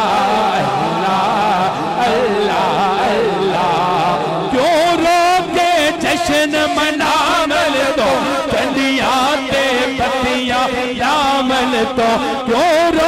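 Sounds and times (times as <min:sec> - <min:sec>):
person singing devotional poem: 0:00.0 - 0:13.0.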